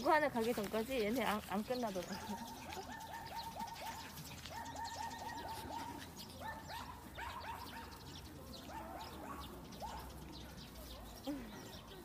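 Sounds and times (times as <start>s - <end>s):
small dogs yipping: 1.3s - 12.0s.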